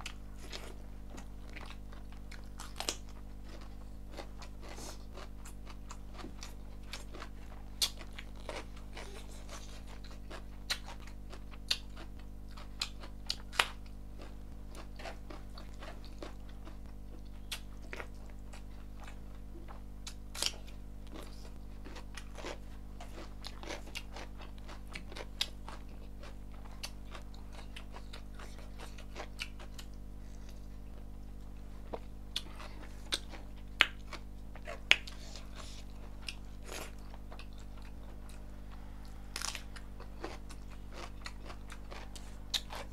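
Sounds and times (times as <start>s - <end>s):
person chewing rice: 0.0s - 42.9s
steady low hum: 0.0s - 42.9s.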